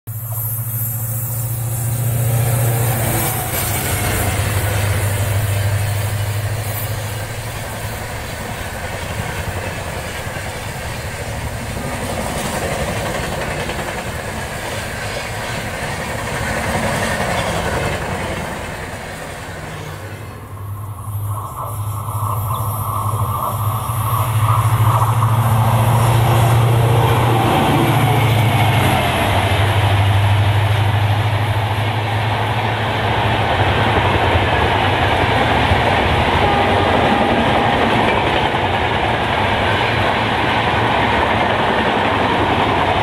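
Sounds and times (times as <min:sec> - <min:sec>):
diesel locomotive engine hum: 0:00.1 - 0:43.0
train wheels on rails rushing: 0:00.1 - 0:43.0.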